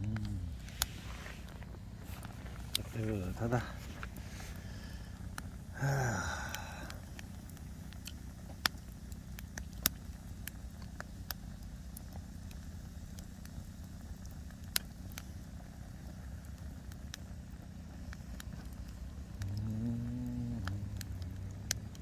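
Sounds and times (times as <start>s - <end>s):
low rumble: 0.0s - 11.0s, 13.8s - 22.0s
wood fire crackling: 0.0s - 22.0s.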